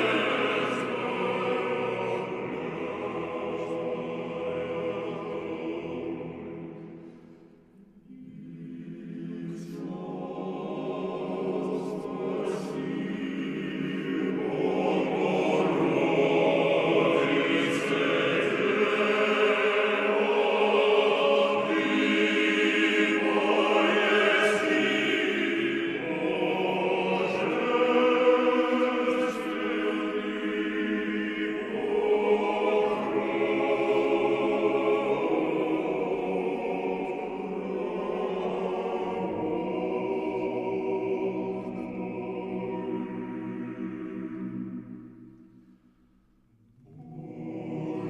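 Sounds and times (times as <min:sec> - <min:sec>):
choir singing a slow chant: 0:00.0 - 0:48.0.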